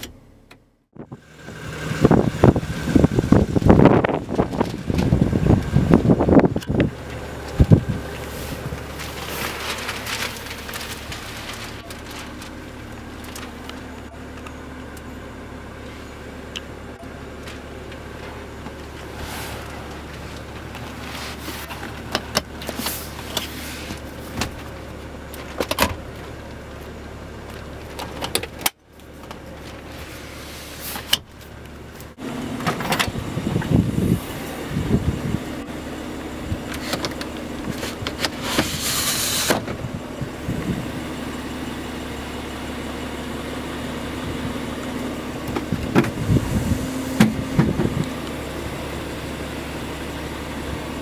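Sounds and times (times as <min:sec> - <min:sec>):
car cabin hum: 0:00.0 - 0:41.5, 0:44.0 - 0:51.0.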